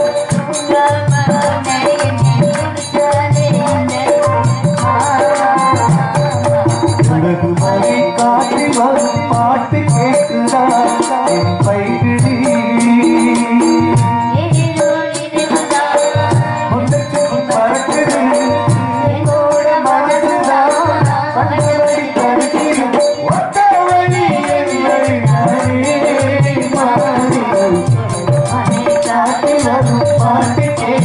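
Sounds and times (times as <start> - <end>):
hand drums and percussion: 0.0 - 31.0
harmonium melody: 0.0 - 31.0.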